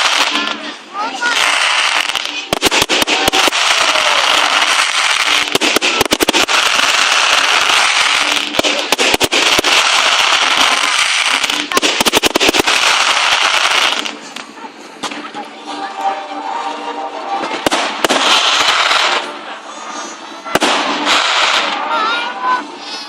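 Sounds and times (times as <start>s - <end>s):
fireworks sharp bangs: 0.0s - 15.2s, 17.4s - 19.4s, 20.5s - 22.2s
fireworks crackling hiss: 0.0s - 15.3s, 17.5s - 23.0s.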